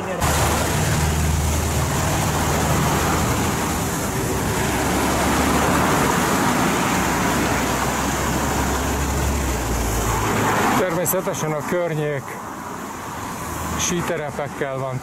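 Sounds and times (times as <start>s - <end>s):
motor traffic humming: 0.0s - 15.0s
wind and road noise: 0.0s - 15.0s.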